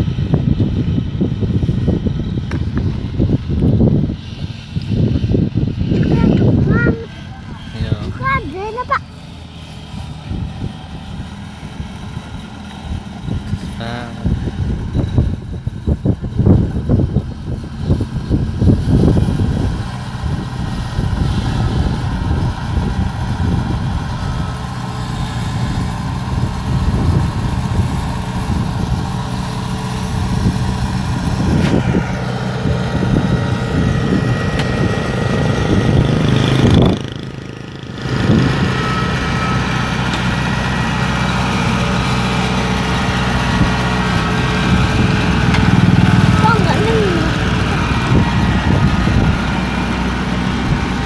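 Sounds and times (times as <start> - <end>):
diesel engine humming: 0.0 - 51.0.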